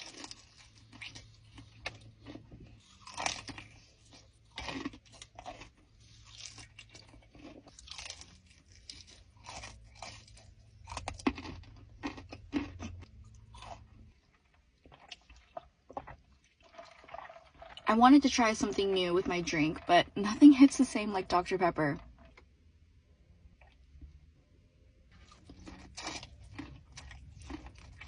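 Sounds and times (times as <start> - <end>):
chewing crunchy fried food: 0.0 - 19.9, 25.1 - 28.0
low steady hum: 0.0 - 28.0.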